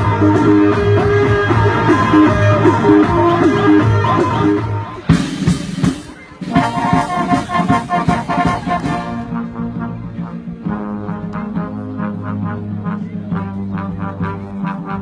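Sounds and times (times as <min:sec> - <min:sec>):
music with brass instruments: 0:00.0 - 0:15.0.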